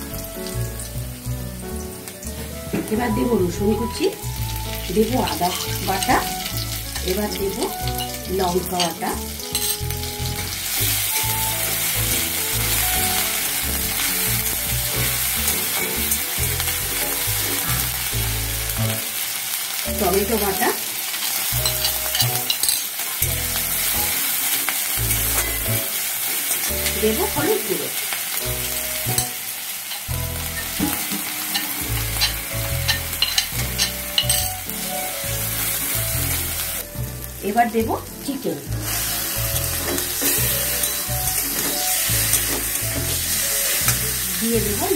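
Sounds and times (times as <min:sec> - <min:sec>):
food sizzling in oil: 0:00.0 - 0:44.9.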